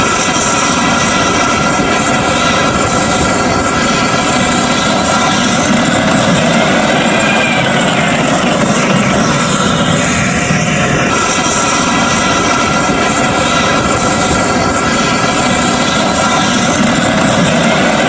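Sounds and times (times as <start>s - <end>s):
loud whining engine drone: 0.0s - 18.0s.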